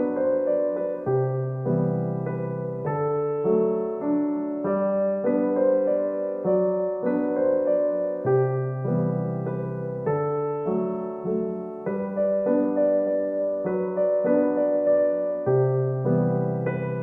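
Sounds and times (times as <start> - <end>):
soft electric piano chords: 0.0 - 17.0.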